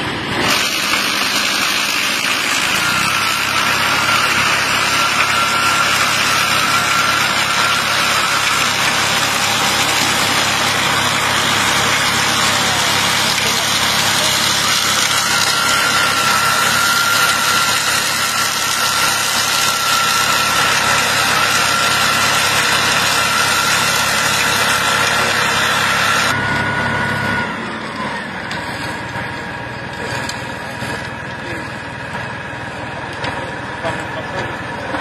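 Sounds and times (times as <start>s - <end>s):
rotors spinning with high whine: 0.0s - 35.0s
tractor engine running: 0.0s - 35.0s.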